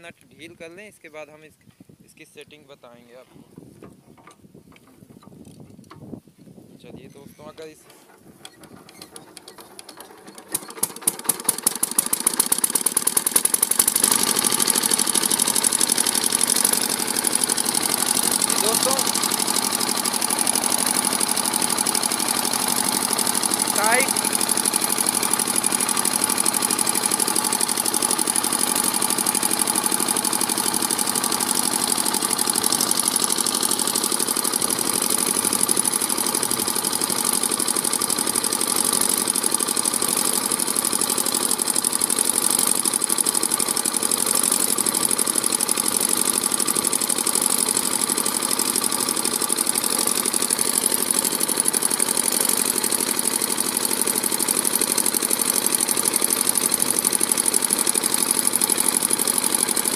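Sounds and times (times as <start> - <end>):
diesel engine running: 8.0 - 59.9.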